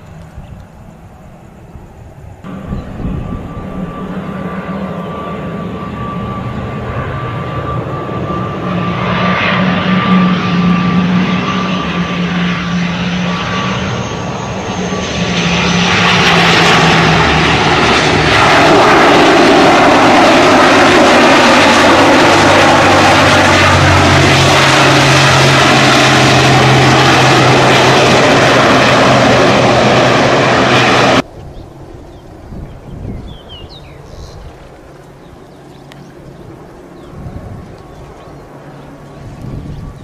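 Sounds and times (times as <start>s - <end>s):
turboprop engines and propellers: 0.0s - 40.0s.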